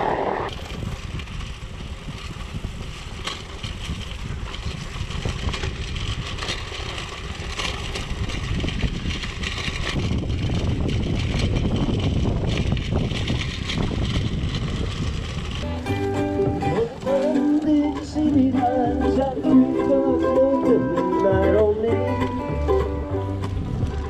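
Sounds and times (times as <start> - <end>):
bicycle tyres rolling: 0.0 - 24.0
wind buffeting microphone: 0.0 - 24.0.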